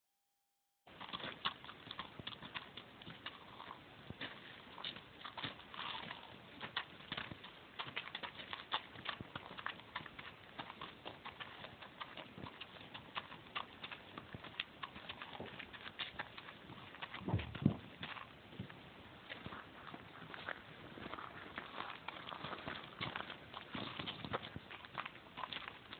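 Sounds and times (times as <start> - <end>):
hooves on gravel: 0.9 - 25.9.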